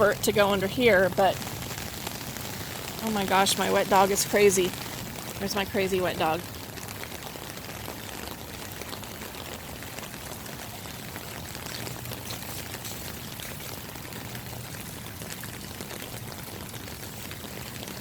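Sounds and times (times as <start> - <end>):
floodwater rushing: 0.0 - 18.0
heavy rain patter: 0.0 - 18.0.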